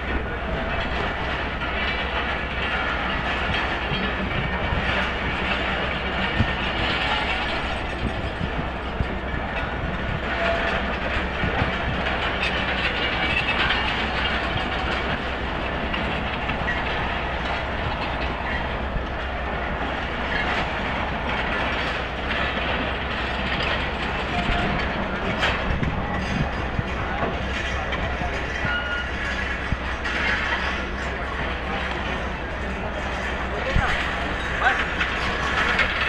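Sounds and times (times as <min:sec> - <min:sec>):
train low rumble: 0:00.0 - 0:36.0
train wheels clicking over rail joints: 0:00.0 - 0:36.0.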